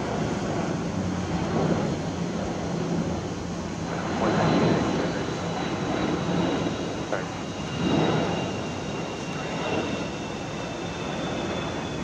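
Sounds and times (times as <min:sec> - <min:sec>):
faint high jet whine: 0:00.0 - 0:12.0
jet airliner rumble overhead: 0:00.0 - 0:12.0.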